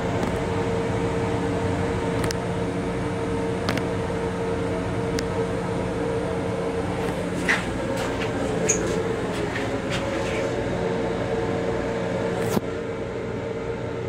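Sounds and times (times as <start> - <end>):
train interior hum and rumble: 0.0 - 14.0.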